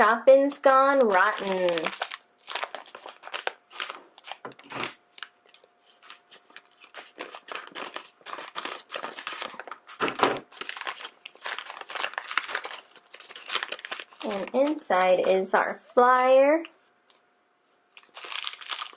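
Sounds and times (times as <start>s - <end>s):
plastic packet crinkling and tearing: 0.6s - 15.3s, 17.9s - 18.9s.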